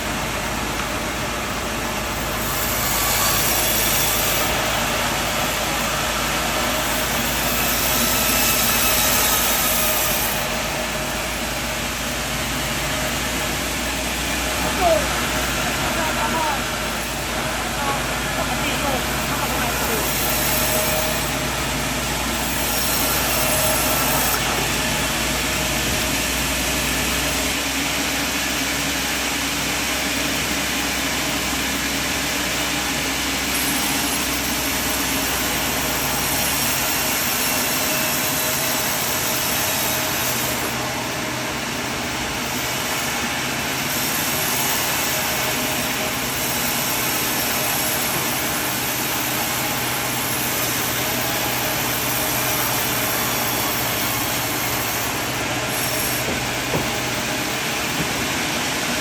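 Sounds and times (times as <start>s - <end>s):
sawmill saw droning: 0.0s - 59.0s.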